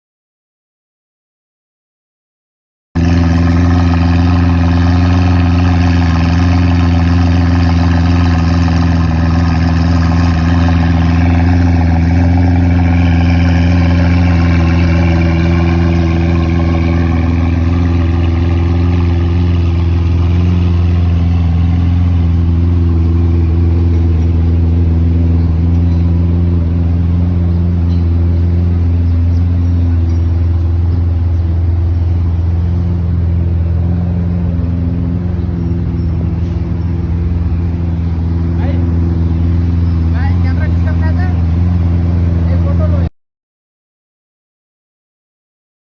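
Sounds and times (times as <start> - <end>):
car engine exhaust running: 3.0 - 43.1.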